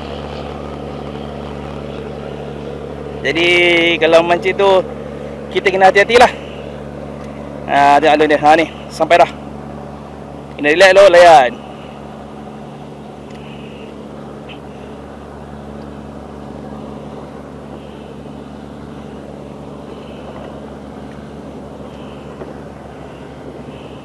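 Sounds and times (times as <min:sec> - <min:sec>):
boat engine droning: 0:00.0 - 0:24.0
water washing around hull: 0:00.0 - 0:24.0.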